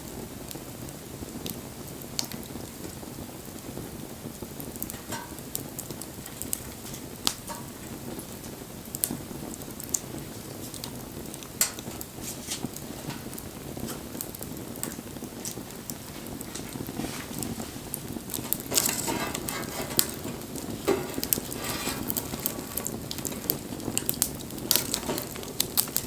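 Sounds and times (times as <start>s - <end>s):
burning wood crackling and popping: 0.0s - 26.0s
wood fire flames rushing: 0.0s - 26.0s.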